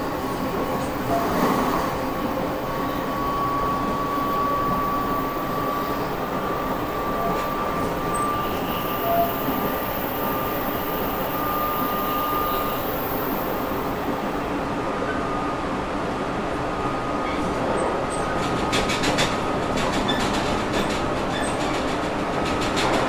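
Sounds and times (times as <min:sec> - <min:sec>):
high train whine: 0:00.0 - 0:23.0
train wheels rumbling on rail: 0:00.0 - 0:23.0.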